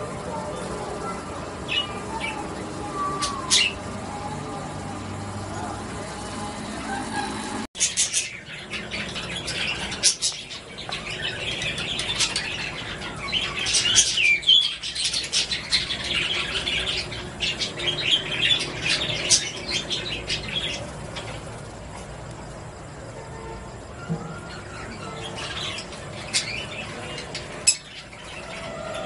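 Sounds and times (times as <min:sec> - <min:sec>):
parrots chirping and chattering: 0:00.0 - 0:23.0, 0:23.7 - 0:29.0.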